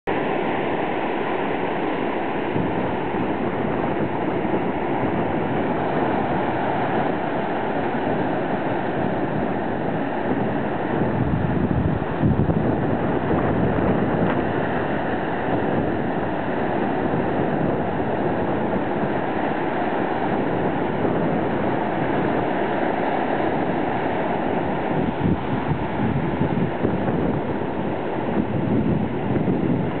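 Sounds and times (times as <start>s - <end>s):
small waves washing up a beach: 0.1s - 30.0s
wind buffeting microphone: 2.0s - 30.0s.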